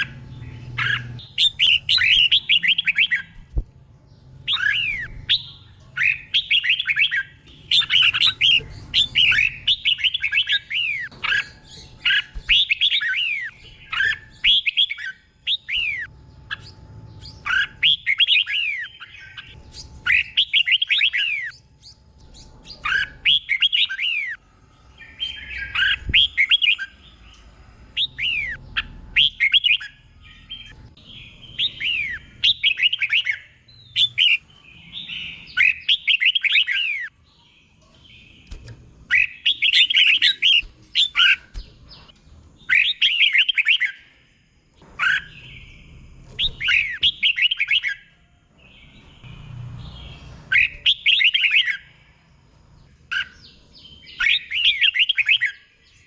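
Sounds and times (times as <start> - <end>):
bird singing whistled notes: 0.0 - 3.4, 4.4 - 24.4, 28.0 - 37.2, 39.1 - 44.1, 45.0 - 49.4, 50.0 - 52.0, 53.1 - 56.0.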